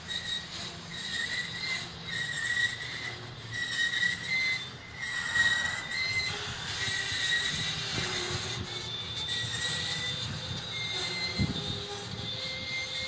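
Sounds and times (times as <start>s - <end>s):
low rumble of rolling cars: 0.0s - 13.0s
train wheels squealing on rails: 0.0s - 13.0s.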